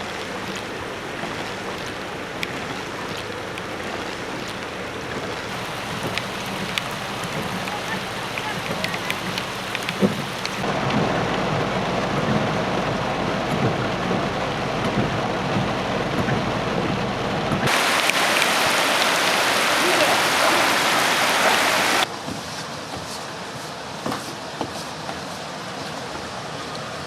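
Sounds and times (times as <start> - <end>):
heavy rain pouring: 0.0 - 22.1.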